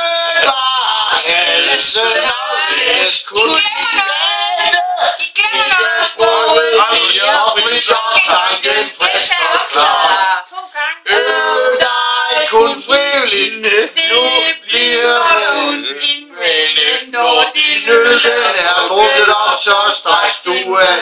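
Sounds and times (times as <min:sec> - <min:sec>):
group singing: 0:00.0 - 0:21.0.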